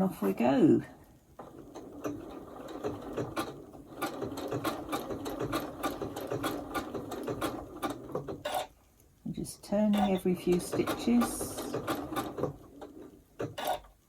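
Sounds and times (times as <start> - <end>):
sewing machine needle ticking: 1.4 - 8.7, 9.9 - 13.9.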